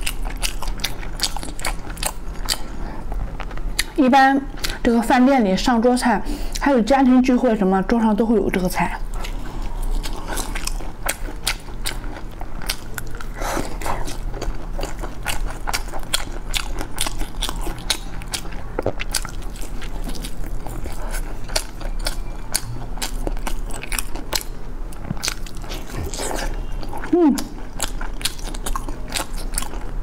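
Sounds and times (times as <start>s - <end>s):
person biting and chewing crunchy food: 0.0s - 3.9s, 9.1s - 30.0s.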